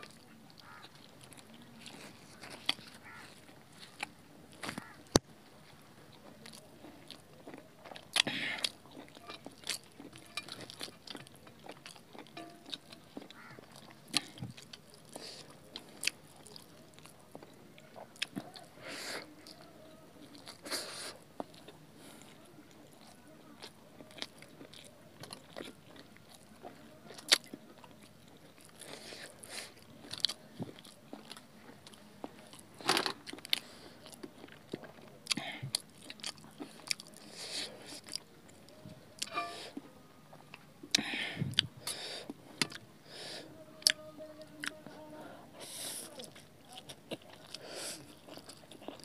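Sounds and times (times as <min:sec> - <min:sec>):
people chewing noodles: 0:00.0 - 0:49.0.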